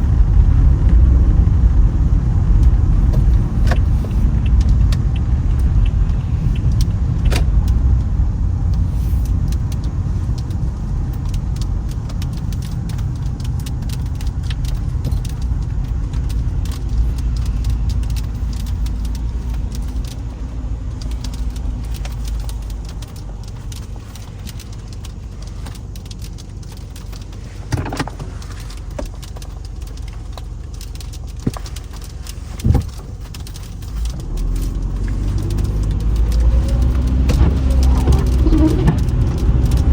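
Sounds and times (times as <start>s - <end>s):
car tyres and engine rumbling: 0.0s - 39.9s.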